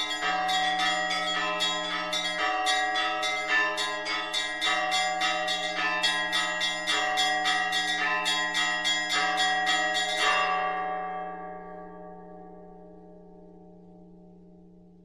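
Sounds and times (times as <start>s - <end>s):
bells pealing: 0.0s - 12.6s.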